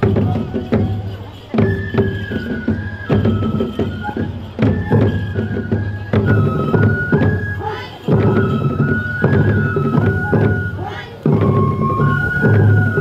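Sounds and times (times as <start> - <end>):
bamboo flute melody: 0.0 - 13.0
taiko drum beats: 0.0 - 13.0.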